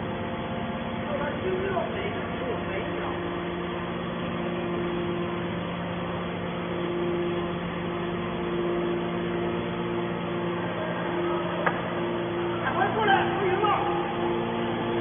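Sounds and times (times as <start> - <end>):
hydraulic baler motor humming: 0.0 - 15.0.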